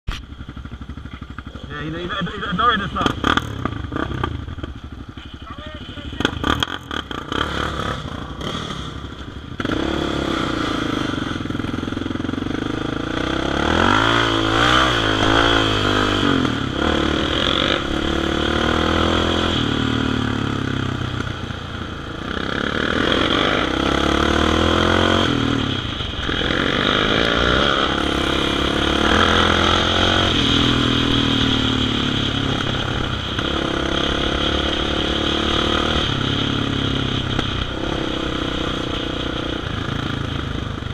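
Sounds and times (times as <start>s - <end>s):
quad bike engine revving: 0.6s - 40.9s.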